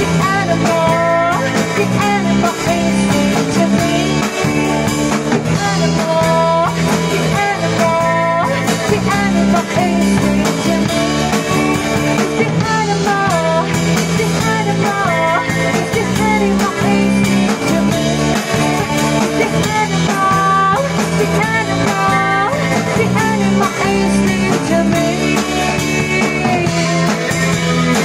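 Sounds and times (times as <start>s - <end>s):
drum kit: 0.0s - 28.0s
electric guitars: 0.0s - 28.0s
woman singing: 0.0s - 28.0s.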